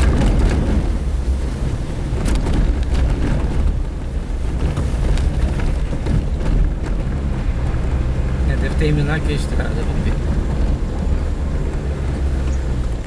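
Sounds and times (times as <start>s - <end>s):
engine and tyre rumble: 0.0s - 13.0s
wind buffeting microphone: 0.0s - 13.0s.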